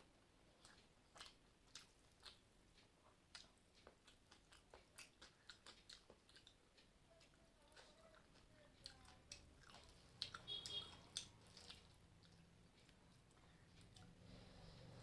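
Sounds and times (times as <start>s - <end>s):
chewing soft food: 0.0s - 15.0s.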